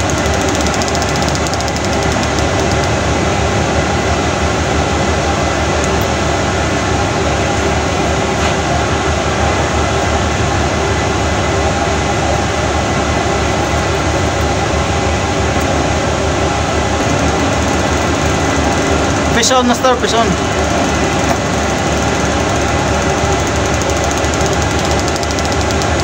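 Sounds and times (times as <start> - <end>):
ship engine and ventilation rumble: 1.5 - 26.0.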